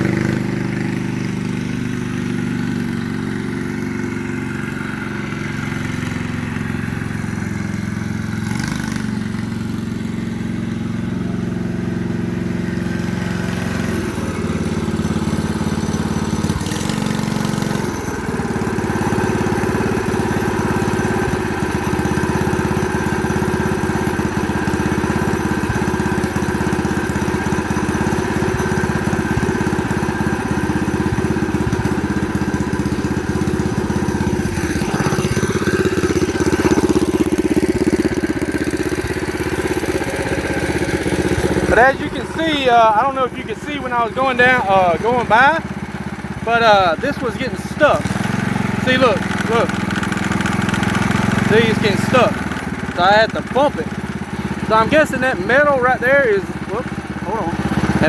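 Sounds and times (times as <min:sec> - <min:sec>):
single-cylinder engine running: 0:00.0 - 0:58.0.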